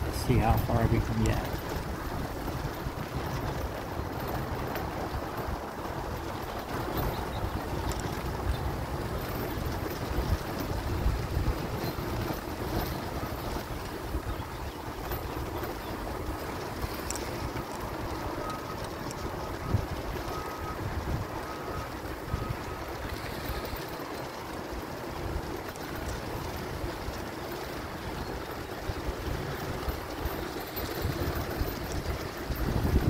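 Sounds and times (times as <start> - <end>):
wheelchair wheels rolling on dirt: 0.0 - 33.0
wind rumbling on microphone: 0.0 - 33.0.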